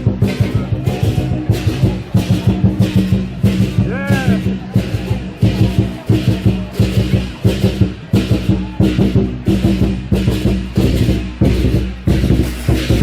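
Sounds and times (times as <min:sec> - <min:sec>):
drum strikes: 0:00.0 - 0:13.0.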